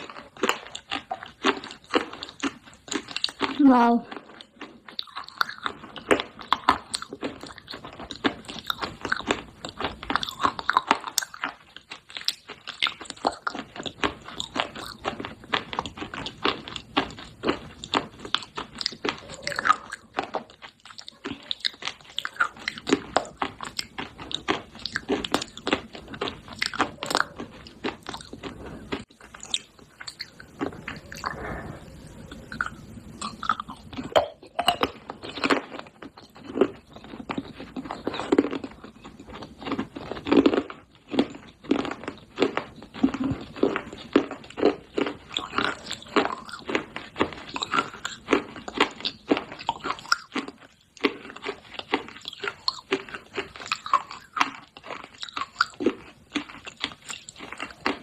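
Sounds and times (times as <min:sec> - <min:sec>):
crunching and chewing: 0:00.0 - 0:58.0.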